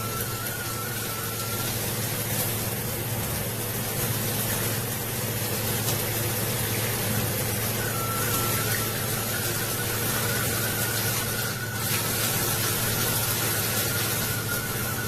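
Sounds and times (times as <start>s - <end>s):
shower head spraying water: 0.0s - 15.0s.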